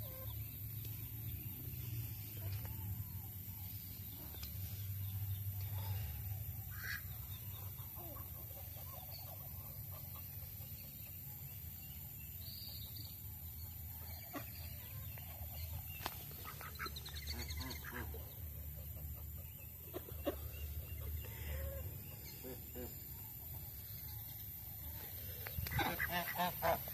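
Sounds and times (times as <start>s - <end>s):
ducklings peeping: 0.0s - 26.9s.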